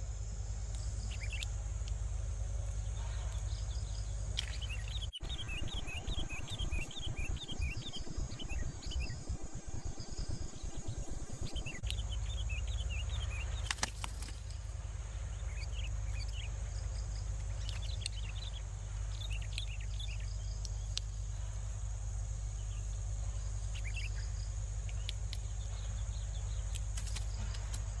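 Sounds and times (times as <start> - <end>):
birds chirping: 0.0 - 28.0
high insect drone: 0.0 - 28.0
low hum: 0.0 - 28.0
low rumbling noise: 0.0 - 28.0.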